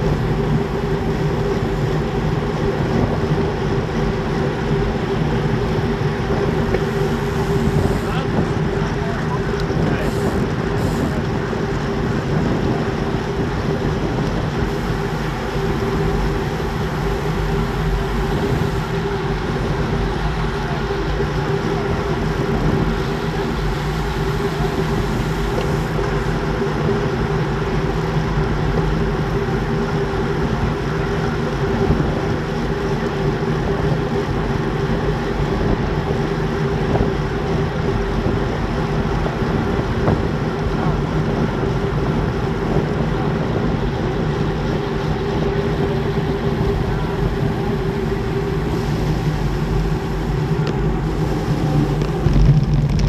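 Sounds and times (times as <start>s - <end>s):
bike tyres humming on asphalt: 0.0s - 53.0s
wind rushing over microphone: 0.0s - 53.0s.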